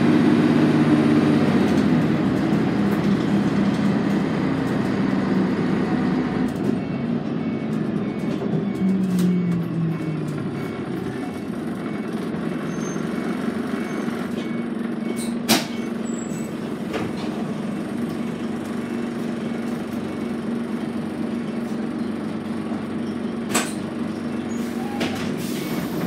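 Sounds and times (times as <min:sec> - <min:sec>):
bus engine droning: 0:00.0 - 0:26.0.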